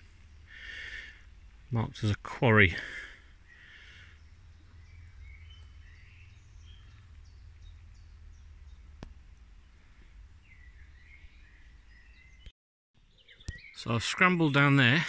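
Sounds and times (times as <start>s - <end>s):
low steady rumble: 0.0s - 12.3s
small birds chirping: 0.0s - 15.0s.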